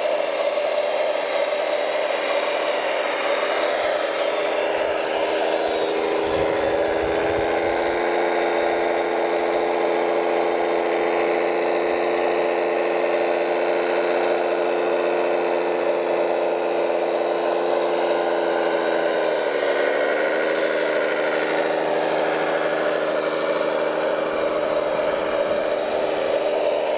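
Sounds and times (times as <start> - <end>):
toy machine motor humming: 0.0 - 26.9.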